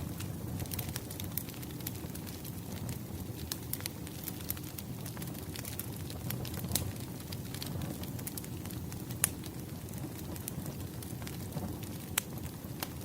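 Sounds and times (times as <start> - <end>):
burning logs crackling and popping: 0.0 - 13.0
fire rumbling: 0.0 - 13.0.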